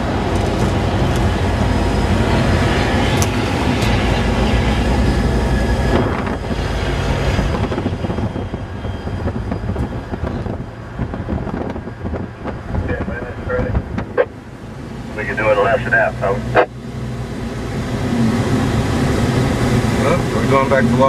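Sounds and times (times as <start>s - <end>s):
diesel locomotive engine drone: 0.0s - 21.0s
rail noise: 0.0s - 21.0s.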